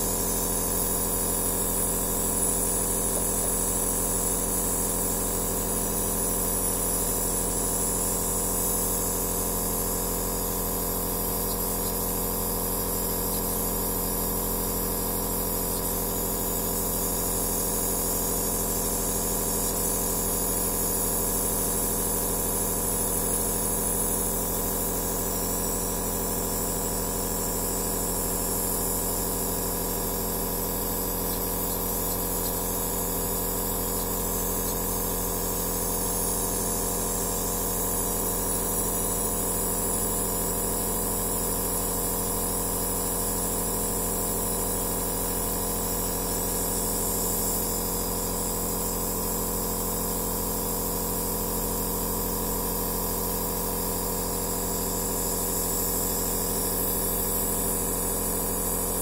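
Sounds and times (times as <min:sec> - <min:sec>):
nebulizer mechanical hum: 0:00.0 - 0:43.8, 0:44.7 - 0:49.8.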